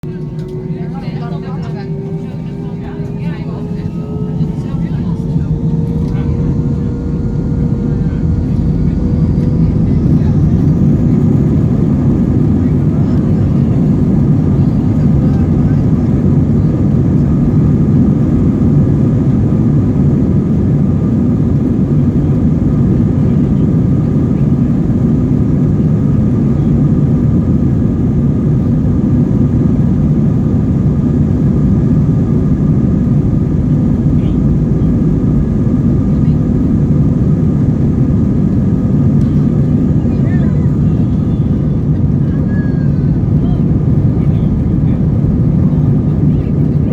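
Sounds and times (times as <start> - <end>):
jet engines roaring in cabin: 0.0 - 46.9.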